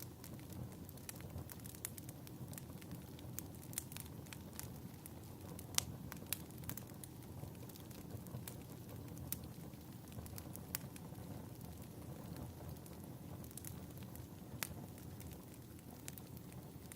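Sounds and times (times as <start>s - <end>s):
wood fire crackling and popping: 0.0s - 16.9s.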